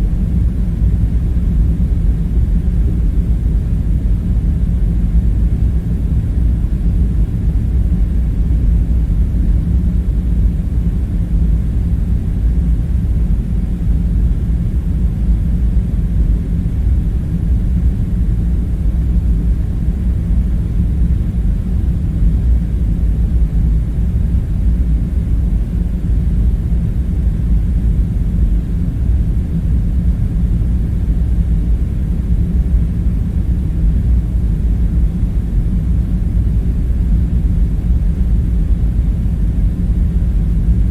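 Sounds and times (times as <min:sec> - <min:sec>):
low rumble with faint hum: 0:00.0 - 0:40.9.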